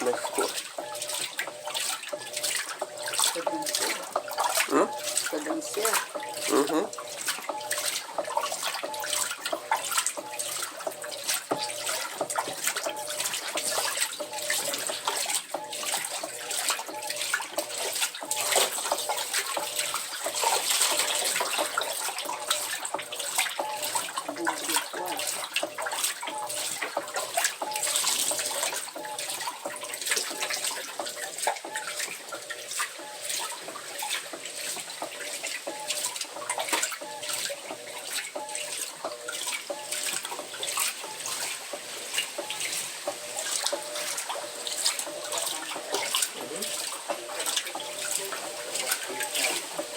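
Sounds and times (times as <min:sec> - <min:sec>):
water sloshing in washing machine: 0:00.0 - 0:49.9.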